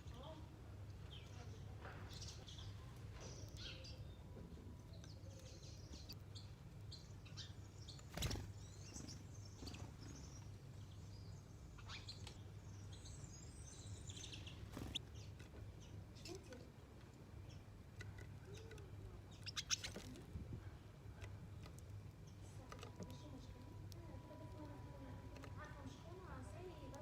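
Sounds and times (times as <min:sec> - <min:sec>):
faint low hum: 0:00.0 - 0:27.0
small birds chirping: 0:00.0 - 0:27.0.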